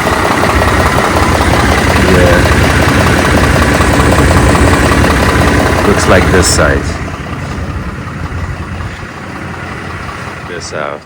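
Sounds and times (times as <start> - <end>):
exhaust ticking: 0.0 - 11.0
truck engine idling: 0.0 - 11.0.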